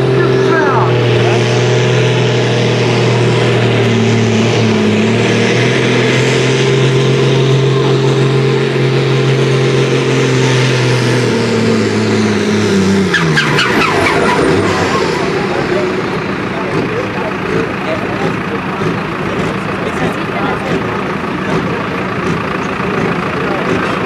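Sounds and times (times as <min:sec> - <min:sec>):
tractor diesel engine at high revs: 0:00.0 - 0:24.0.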